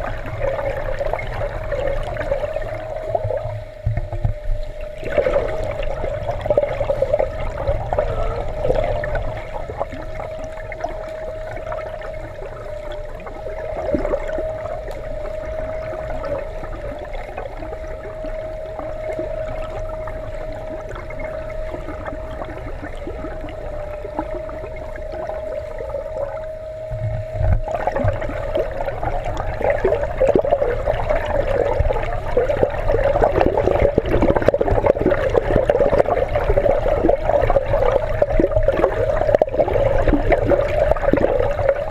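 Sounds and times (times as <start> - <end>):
muffled underwater churning: 0.0 - 41.9
steady hum: 0.0 - 41.9.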